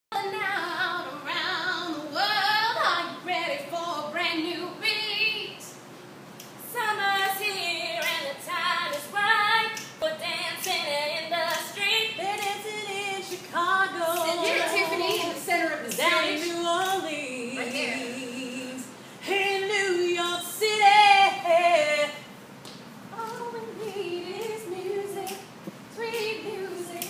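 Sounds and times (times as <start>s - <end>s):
woman singing: 0.1s - 5.8s, 6.6s - 22.3s, 23.1s - 27.0s.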